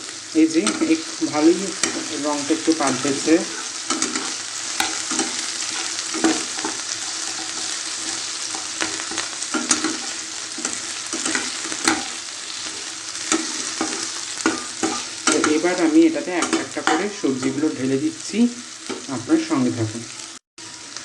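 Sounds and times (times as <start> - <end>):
chicken sizzling in oil: 0.0 - 21.0
spatula scraping the pan: 0.5 - 18.0.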